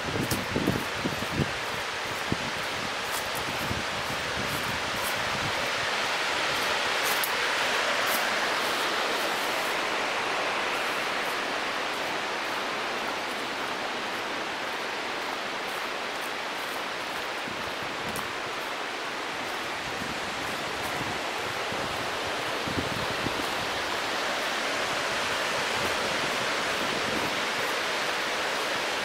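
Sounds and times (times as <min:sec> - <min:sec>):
rushing waterfall: 0:00.0 - 0:29.0.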